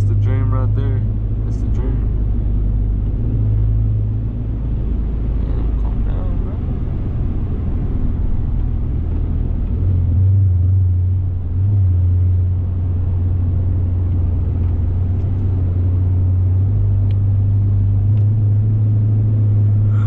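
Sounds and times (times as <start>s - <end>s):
car interior engine and tyre drone: 0.0s - 20.0s.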